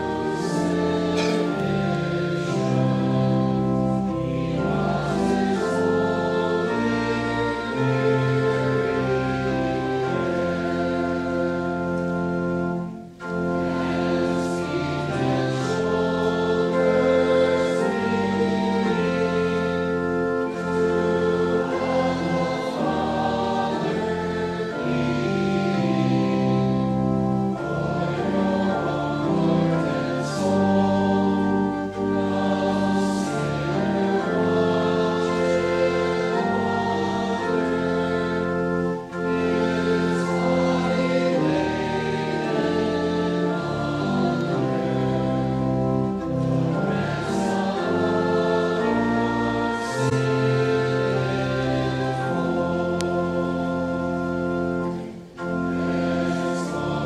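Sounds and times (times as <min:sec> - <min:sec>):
slow hymn with accompaniment: 0:00.0 - 0:57.0.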